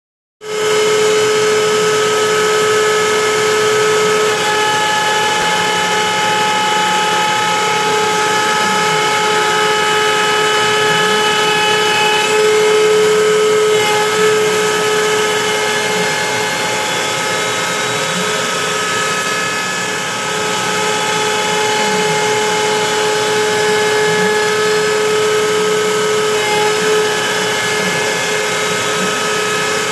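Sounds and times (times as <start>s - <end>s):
router whining: 0.4s - 29.9s
bit cutting wood: 0.5s - 29.9s.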